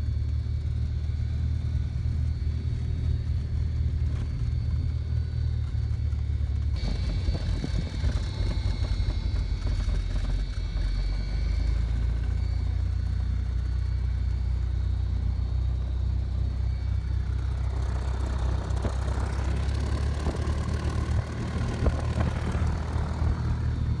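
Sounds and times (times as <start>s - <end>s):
piston aircraft engine droning: 0.0s - 24.0s.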